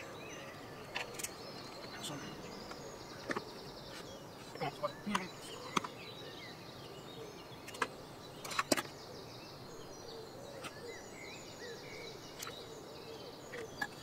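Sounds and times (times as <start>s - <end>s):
faint chirping: 0.0s - 14.0s.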